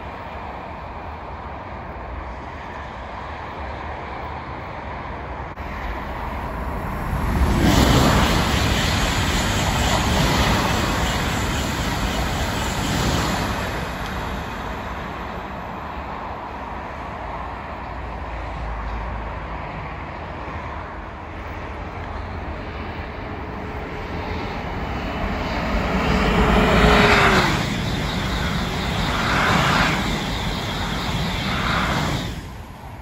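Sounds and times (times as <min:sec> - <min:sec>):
high-speed train passing: 0:00.0 - 0:33.0.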